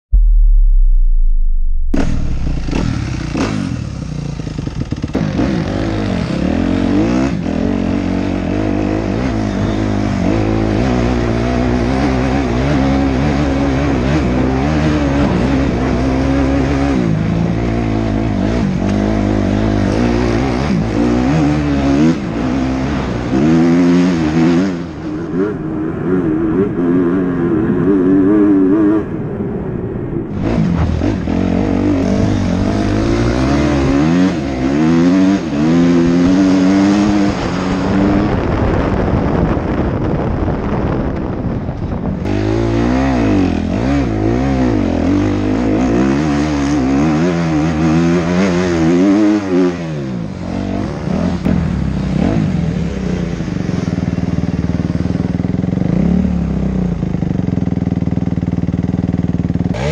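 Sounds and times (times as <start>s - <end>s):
motocross bike engine revving: 1.9s - 29.2s, 30.3s - 39.5s, 42.1s - 59.9s.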